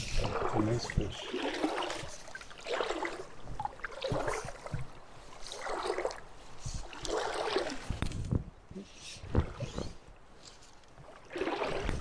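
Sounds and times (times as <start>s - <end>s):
water splashing: 0.0s - 8.1s, 9.2s - 12.0s.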